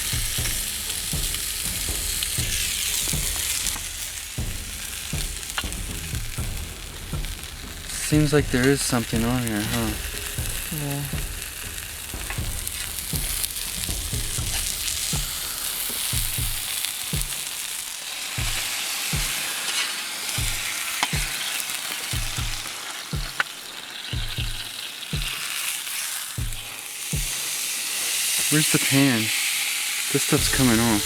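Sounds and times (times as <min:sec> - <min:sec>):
meat sizzling on hot metal: 0:00.0 - 0:31.0
sharp crackle: 0:00.0 - 0:31.0.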